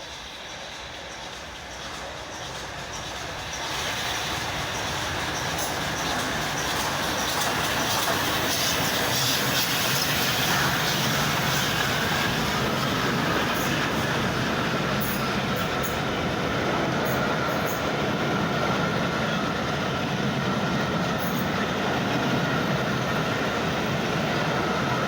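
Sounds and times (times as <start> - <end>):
steam train approaching: 0.0 - 25.0.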